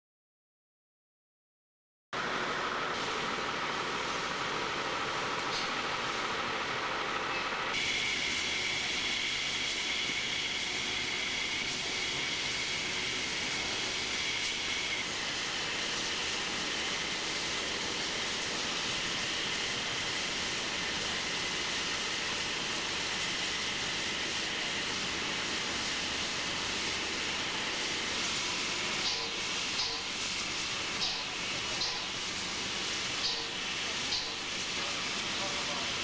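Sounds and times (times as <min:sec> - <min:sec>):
steam locomotive hissing: 0:02.7 - 0:36.0.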